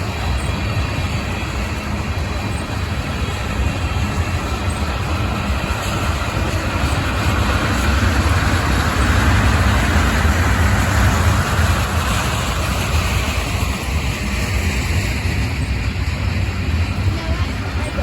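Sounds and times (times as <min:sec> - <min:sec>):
freight train wheels rumbling: 0:00.0 - 0:18.0
noisy rushing: 0:00.0 - 0:18.0.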